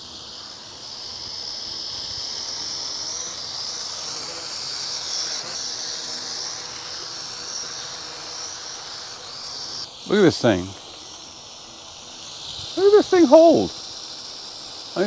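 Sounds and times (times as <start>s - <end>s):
quadcopter propellers whining: 0.0s - 15.0s.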